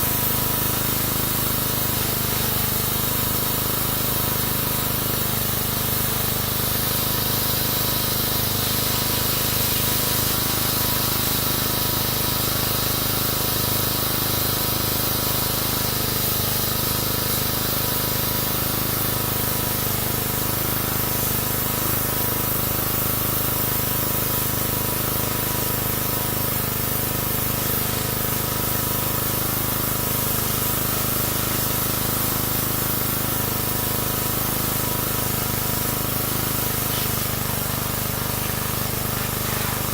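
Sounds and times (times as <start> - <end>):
pressure washer water jet hissing: 0.0 - 39.9
pump motor humming: 0.0 - 39.9.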